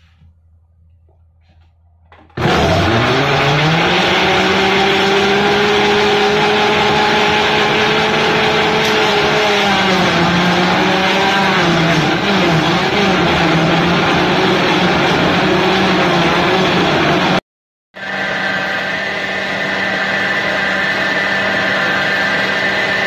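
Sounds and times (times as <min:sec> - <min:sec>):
blender motor whining: 0:02.2 - 0:17.4, 0:18.0 - 0:23.0.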